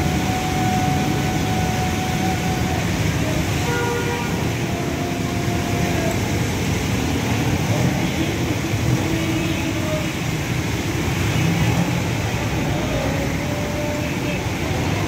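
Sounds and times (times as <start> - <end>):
traffic on wet road: 0.0 - 15.0.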